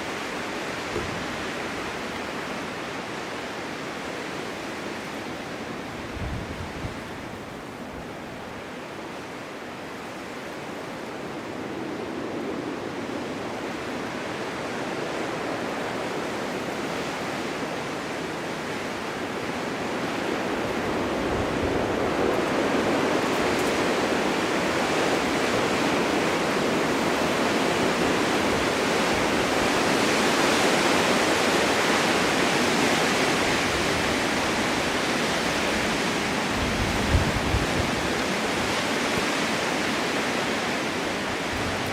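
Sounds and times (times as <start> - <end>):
snowstorm wind blowing: 0.0 - 41.9.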